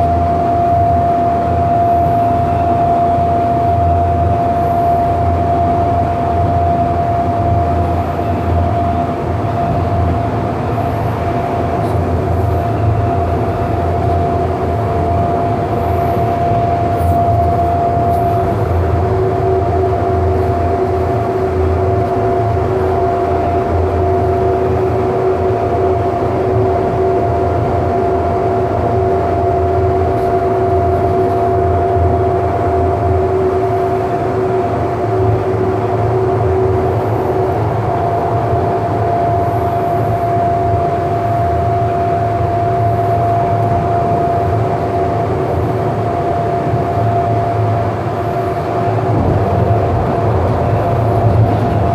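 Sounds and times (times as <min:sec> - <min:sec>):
light rail low rumble: 0:00.0 - 0:51.9
steady tones: 0:00.0 - 0:51.9.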